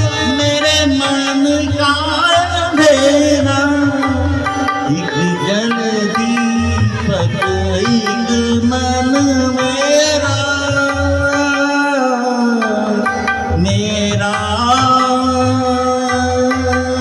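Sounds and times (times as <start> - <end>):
backing track with tabla: 0.0 - 17.0
man singing into a microphone: 0.0 - 17.0.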